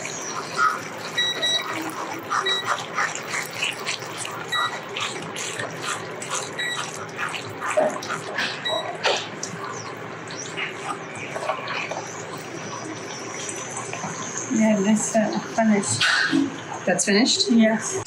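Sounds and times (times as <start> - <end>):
stew bubbling and crackling: 0.0 - 18.0.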